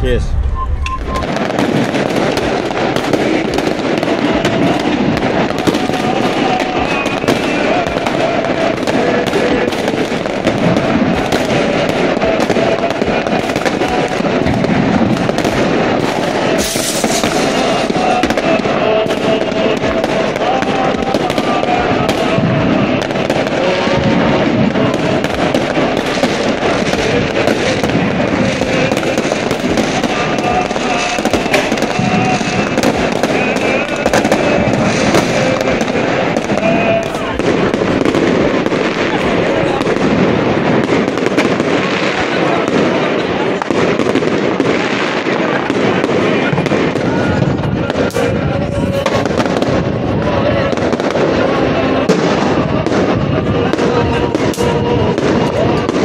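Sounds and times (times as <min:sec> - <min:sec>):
firecrackers crackling: 0:00.0 - 0:56.0
voices: 0:00.0 - 0:56.0.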